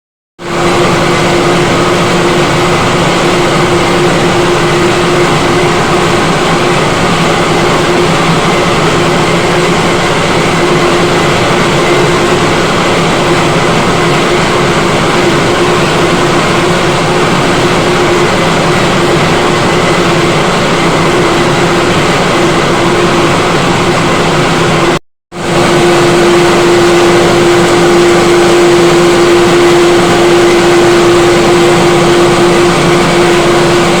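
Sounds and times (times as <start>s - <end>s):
machine running with hum: 0.4s - 34.0s.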